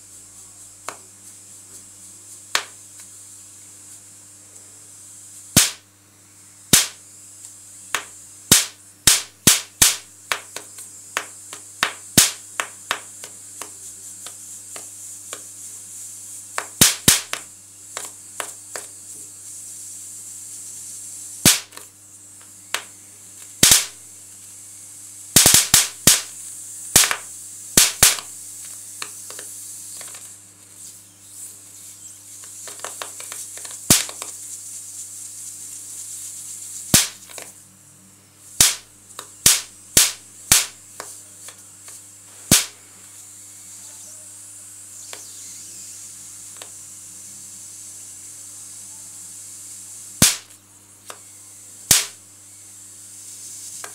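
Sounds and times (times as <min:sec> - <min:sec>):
electric sparks cracking: 0:00.0 - 0:05.9, 0:06.6 - 0:37.6, 0:38.5 - 0:43.7, 0:44.5 - 0:48.6, 0:49.3 - 0:53.9.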